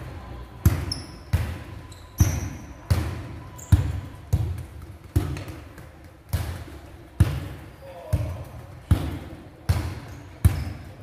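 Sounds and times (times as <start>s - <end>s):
football thudding on tiled floor: 0.7s - 10.9s.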